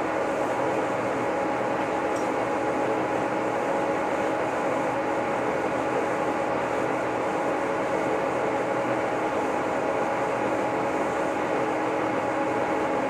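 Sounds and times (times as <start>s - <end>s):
boring mill machine hum: 0.0s - 13.0s.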